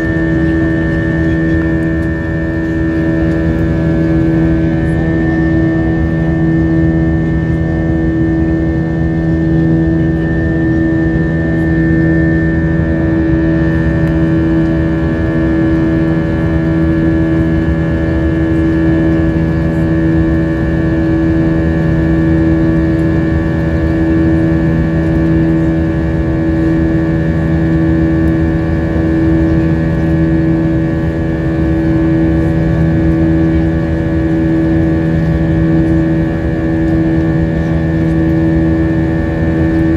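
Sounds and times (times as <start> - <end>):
jet engine drone: 0.0 - 39.9.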